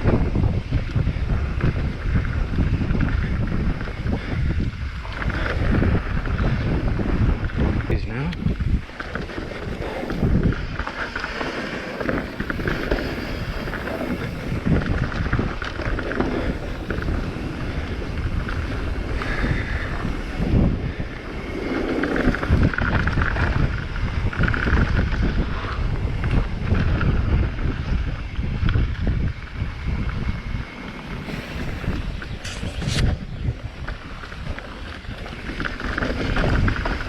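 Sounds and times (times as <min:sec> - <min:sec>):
bike clattering over rough trail: 0:00.0 - 0:37.0
wind buffeting microphone: 0:00.0 - 0:37.0.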